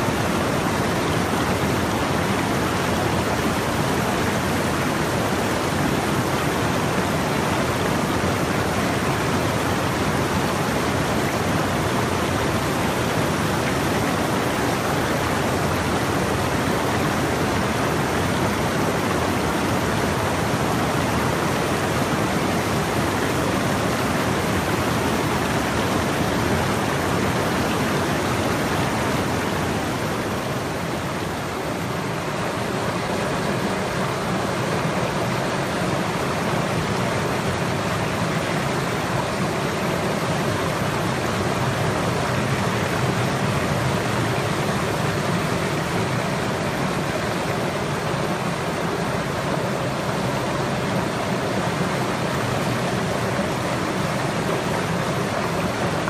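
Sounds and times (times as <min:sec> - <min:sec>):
water rushing over waterfall: 0:00.0 - 0:56.0.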